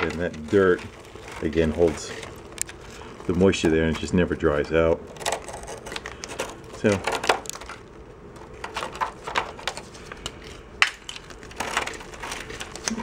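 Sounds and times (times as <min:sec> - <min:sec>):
rust scale crumbling and crunching: 0:00.0 - 0:13.0.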